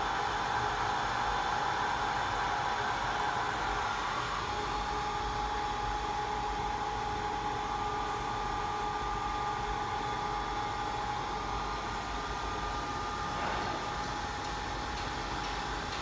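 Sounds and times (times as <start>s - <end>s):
fans whirring with whine: 0.0s - 16.0s.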